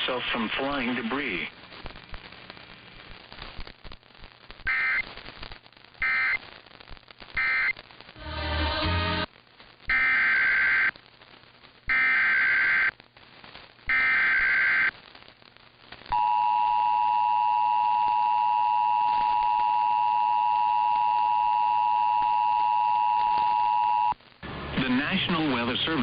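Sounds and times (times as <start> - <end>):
noisy crackling burst: 0.0 - 26.0.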